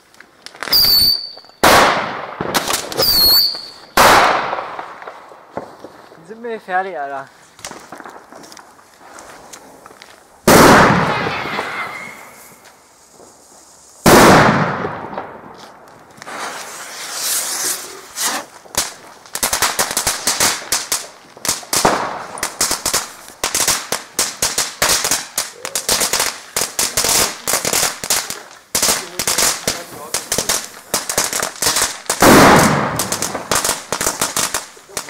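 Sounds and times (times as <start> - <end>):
firecrackers banging: 0.0 - 35.0
rapid firecracker crackle: 0.0 - 35.0.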